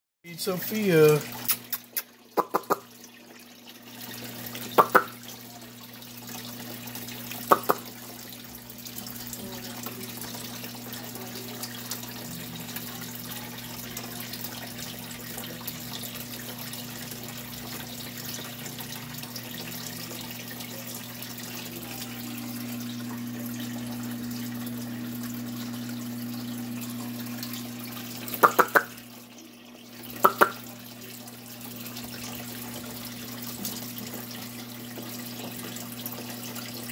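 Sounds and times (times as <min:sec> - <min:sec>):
water trickling from filter: 0:00.3 - 0:36.9
low electrical hum: 0:02.8 - 0:36.9.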